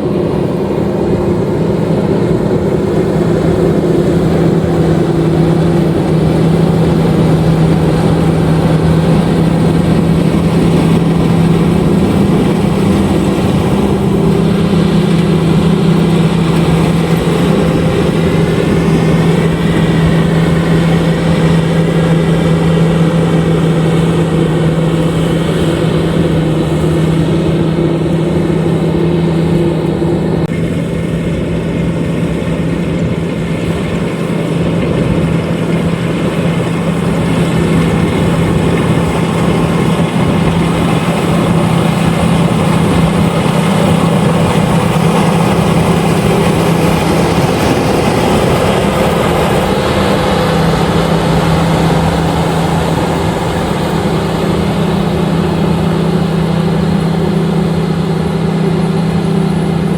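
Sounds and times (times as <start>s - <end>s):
combine harvester engine hum: 0.0s - 59.9s
machinery noise: 0.0s - 59.9s.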